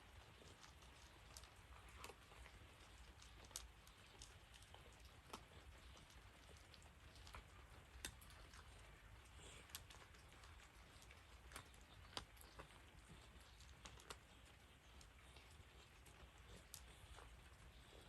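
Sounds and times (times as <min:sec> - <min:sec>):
raindrops ticking: 0:00.0 - 0:17.8
low steady rain hiss: 0:00.0 - 0:18.0.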